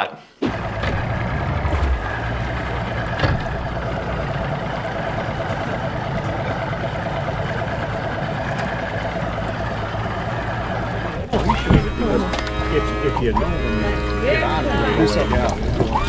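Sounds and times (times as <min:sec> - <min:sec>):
outboard motor idling: 0:00.4 - 0:16.0.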